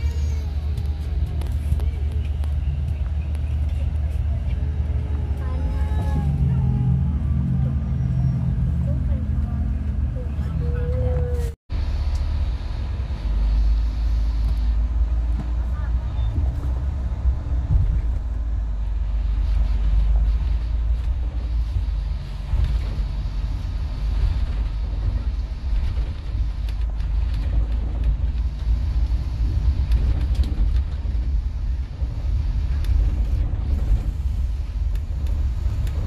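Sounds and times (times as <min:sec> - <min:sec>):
coach engine and road noise: 0:00.0 - 0:36.0.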